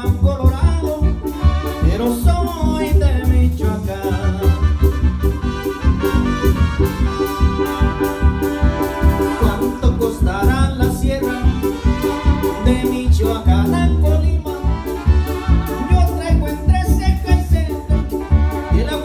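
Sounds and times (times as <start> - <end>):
man singing: 0.0 - 6.6, 8.8 - 19.0
drum kit beat: 0.0 - 19.0
electronic keyboards: 0.0 - 19.0
heavy bass line: 0.0 - 19.0.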